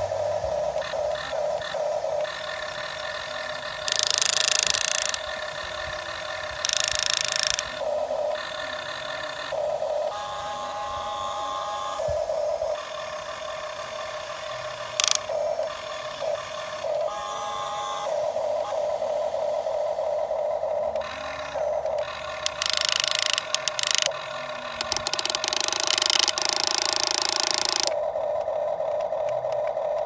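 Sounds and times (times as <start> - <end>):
small electric motors whining: 0.0 - 30.0.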